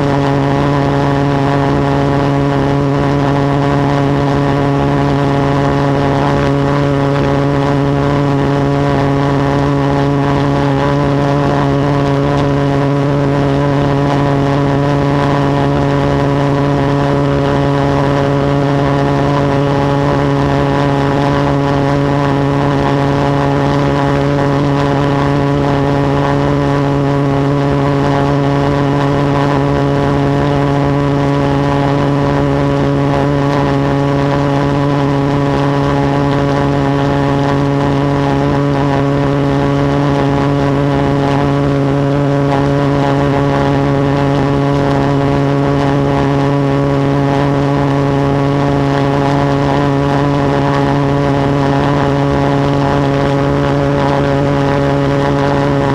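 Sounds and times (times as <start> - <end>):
pulse jet engine droning: 0.0 - 55.9.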